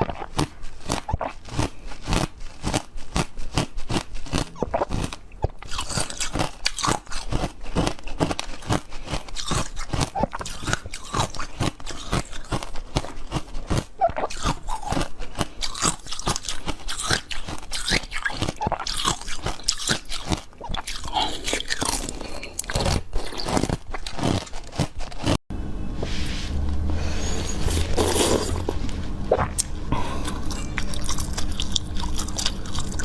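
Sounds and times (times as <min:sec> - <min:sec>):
crunchy food crunching: 0:00.0 - 0:25.4, 0:29.3 - 0:33.0
wet chewing: 0:00.0 - 0:25.4, 0:29.3 - 0:33.0.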